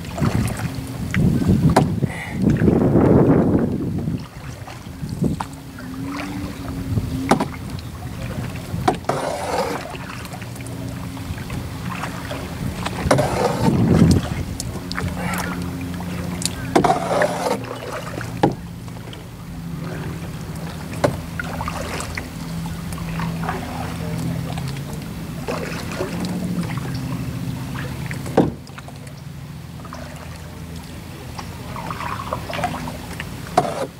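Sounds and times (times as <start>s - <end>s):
canoe paddle splashing water: 0.0s - 33.9s.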